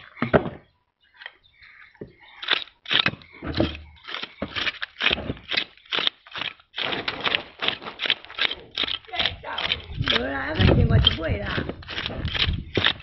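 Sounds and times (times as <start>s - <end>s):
metal scraper scraping fish scales: 2.4s - 13.0s.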